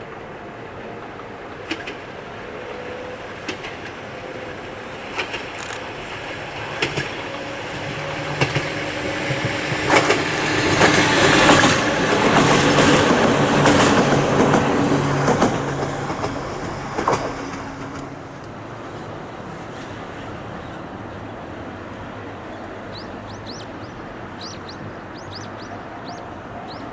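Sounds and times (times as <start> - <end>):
electric train passing: 0.0 - 26.9
wheels clicking over rail joints: 1.4 - 26.9.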